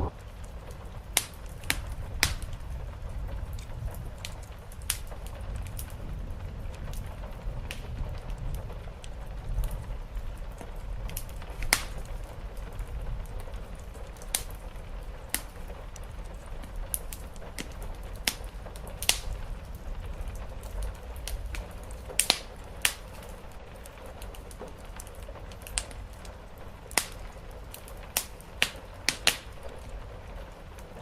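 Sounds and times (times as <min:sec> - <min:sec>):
fire low rumble: 0:00.0 - 0:31.0
wood fire popping and snapping: 0:00.0 - 0:31.0.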